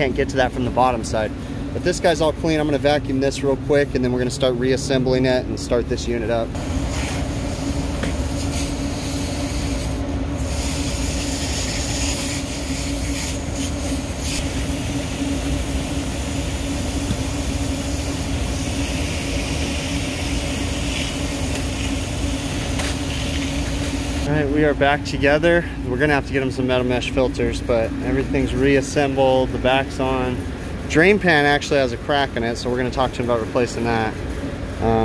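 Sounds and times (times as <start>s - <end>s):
hvac equipment humming: 0.0s - 35.0s.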